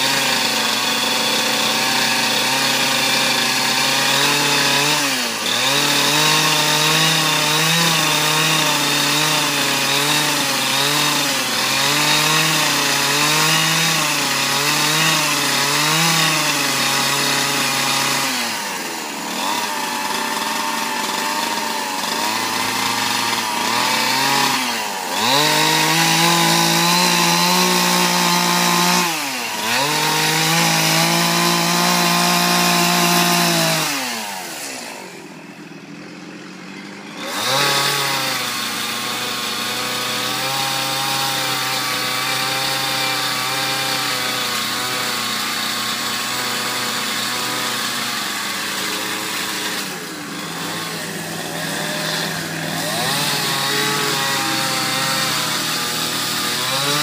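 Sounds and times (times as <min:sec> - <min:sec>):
chainsaw revving and cutting wood: 0:00.0 - 0:57.0.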